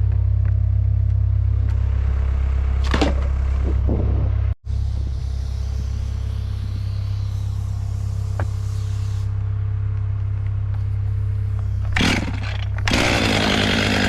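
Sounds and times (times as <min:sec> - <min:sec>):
large engine rumbling: 0:00.0 - 0:14.0.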